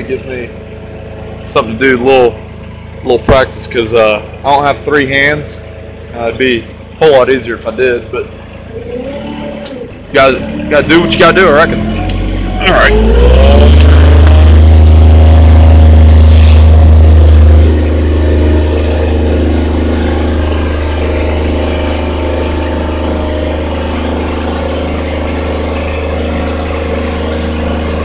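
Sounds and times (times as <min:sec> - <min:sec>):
spray rig engine rumbling: 0:00.0 - 0:28.0.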